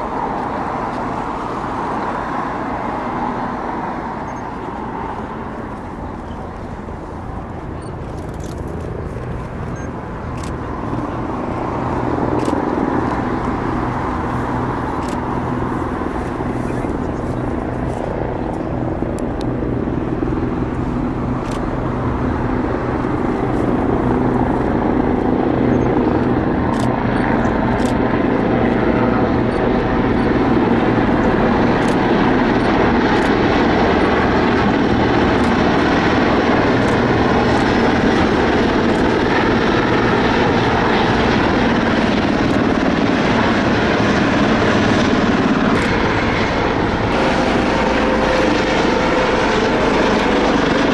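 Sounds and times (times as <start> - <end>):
aircraft drone: 0.0 - 50.9.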